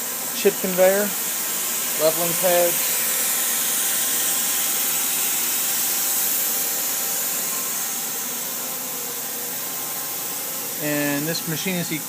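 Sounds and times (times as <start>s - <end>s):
faint hum tones: 0.0s - 12.0s
steady hiss: 0.0s - 12.0s.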